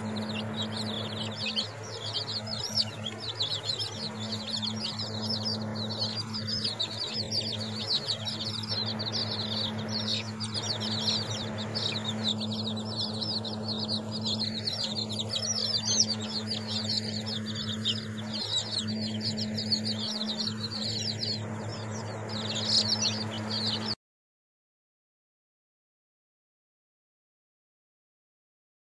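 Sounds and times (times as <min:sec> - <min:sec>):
chicks peeping: 0:00.0 - 0:24.0
steady low hum: 0:00.0 - 0:24.0.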